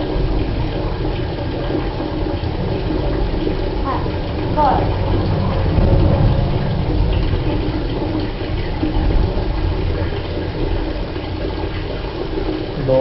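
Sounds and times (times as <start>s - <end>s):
water rushing into a bucket: 0.0s - 13.0s.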